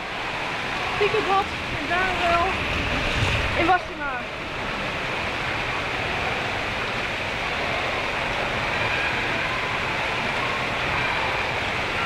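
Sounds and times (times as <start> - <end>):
water rushing down slide: 0.0 - 12.0.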